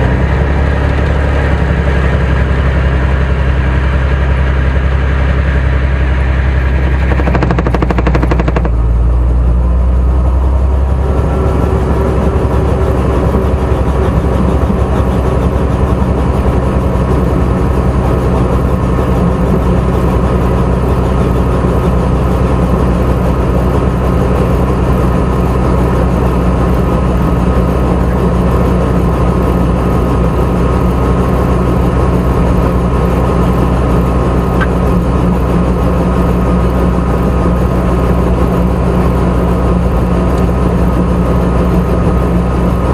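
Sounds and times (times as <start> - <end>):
helicopter engine and rotor: 0.0 - 42.9.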